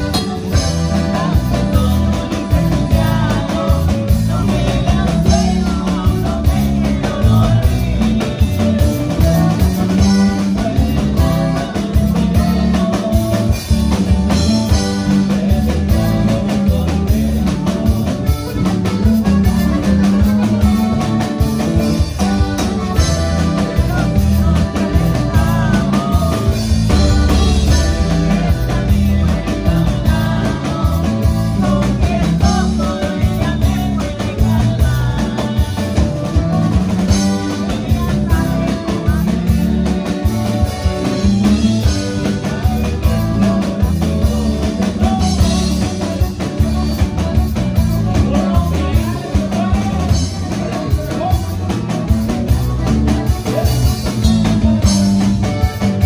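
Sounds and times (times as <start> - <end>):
bass line: 0.0 - 56.0
button accordion melody: 0.0 - 56.0
live band playing: 0.0 - 56.0.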